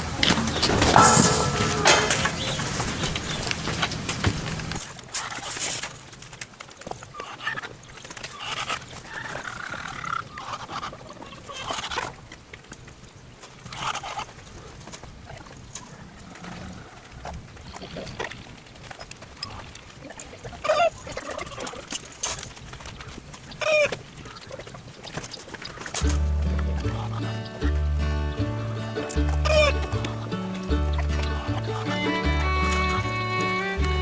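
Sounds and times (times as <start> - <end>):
hens clucking: 0.0 - 5.6, 7.0 - 12.3, 13.6 - 34.0.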